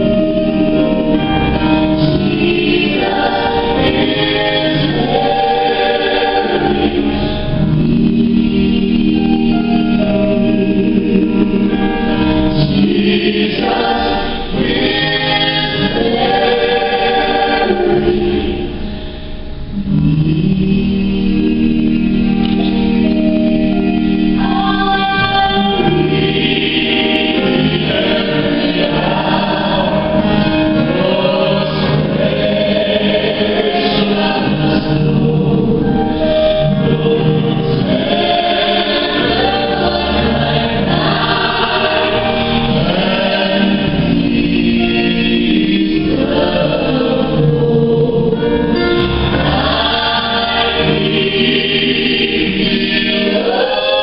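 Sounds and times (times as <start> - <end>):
group singing gospel in harmony: 0.0 - 19.2, 19.8 - 54.0
piano accompaniment: 0.0 - 54.0.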